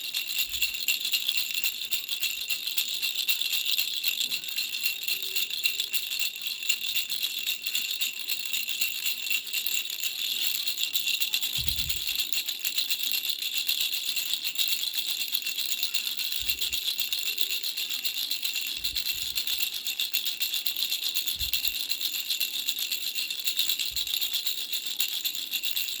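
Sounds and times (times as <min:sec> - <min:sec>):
baby rattle shaking: 0:00.0 - 0:26.0.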